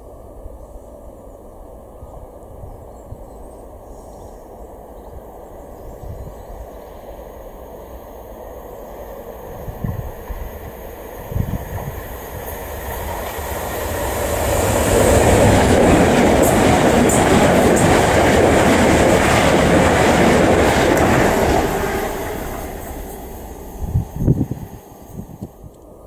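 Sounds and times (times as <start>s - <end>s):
electric train passing at speed: 0.0s - 26.0s.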